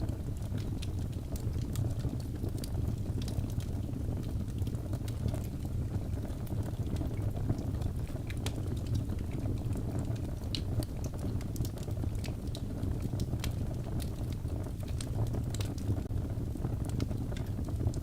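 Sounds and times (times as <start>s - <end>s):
fire burning: 0.0s - 18.0s
wood crackling and popping: 0.0s - 18.0s.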